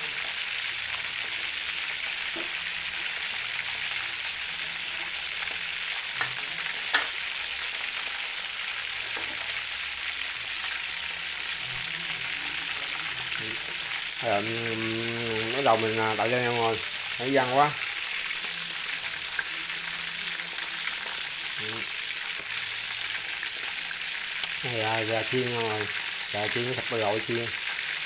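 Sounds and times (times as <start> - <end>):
meat sizzling in hot oil: 0.0 - 28.0.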